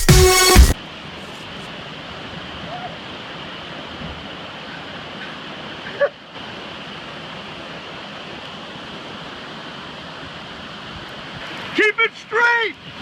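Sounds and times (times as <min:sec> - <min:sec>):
river rapids rushing: 0:00.4 - 0:13.0.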